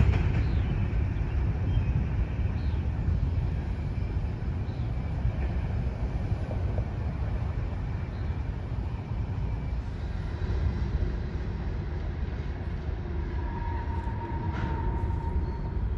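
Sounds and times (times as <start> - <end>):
freight cars rumbling on rails: 0.0 - 15.9.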